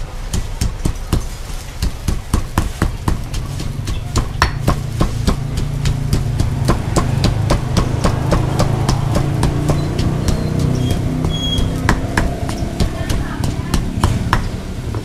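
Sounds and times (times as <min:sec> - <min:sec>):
stone pestle pounding in mortar: 0:00.0 - 0:15.0.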